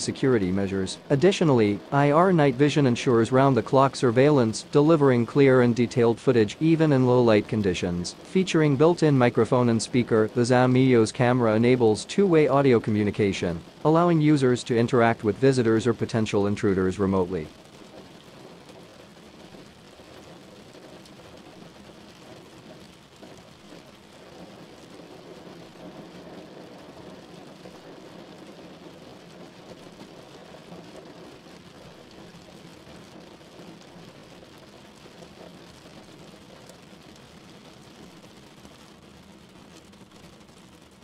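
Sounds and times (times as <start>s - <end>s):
low hiss and rumble: 0.0s - 41.0s.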